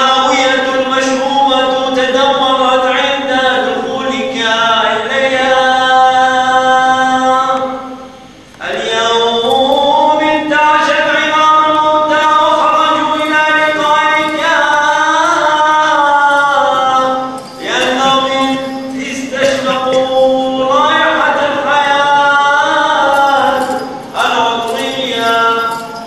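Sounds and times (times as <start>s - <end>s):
liturgical chant: 0.0s - 26.0s.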